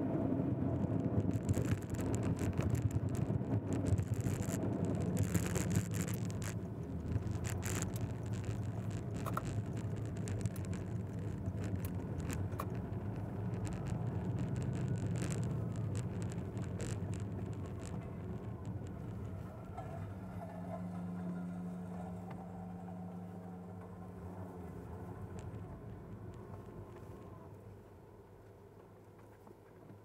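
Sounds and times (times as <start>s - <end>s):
vehicle engine and road hum: 0.0s - 30.0s
faint clicks and rattles: 0.6s - 27.7s.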